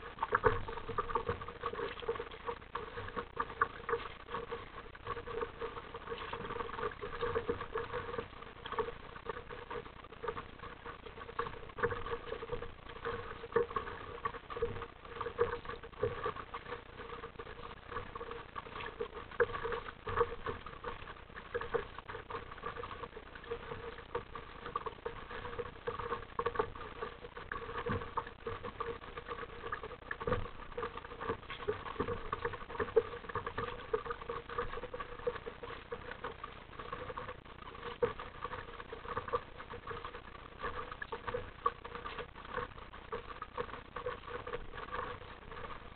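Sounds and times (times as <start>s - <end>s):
water lapping against kayak hull: 0.0s - 45.9s.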